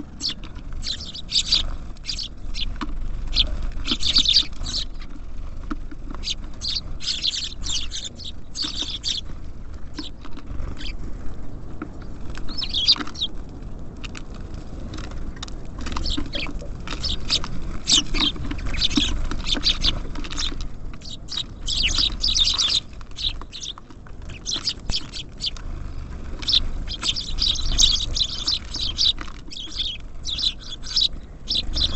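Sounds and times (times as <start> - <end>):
small birds chirping: 0.0 - 13.5, 15.0 - 31.9.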